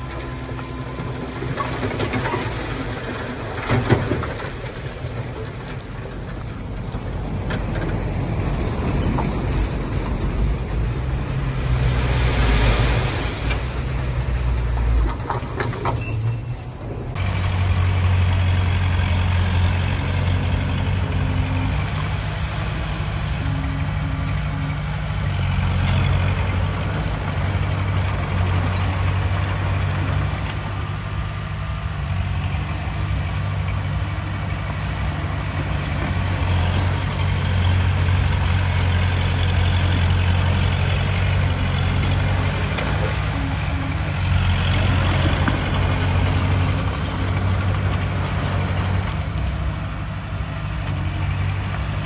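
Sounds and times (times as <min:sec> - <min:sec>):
deep diesel engine drone: 0:00.0 - 0:52.0.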